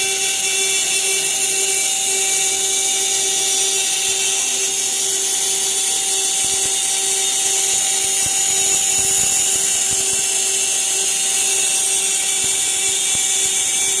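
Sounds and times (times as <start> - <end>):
router spindle milling metal: 0.0 - 14.0.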